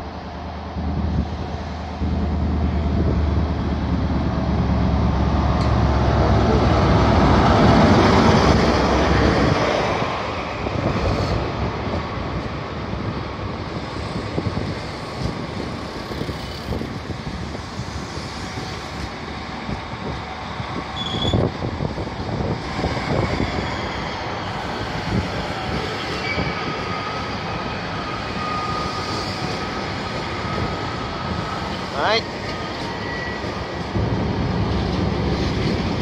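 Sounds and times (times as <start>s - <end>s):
diesel train engine hum: 0.0s - 36.0s.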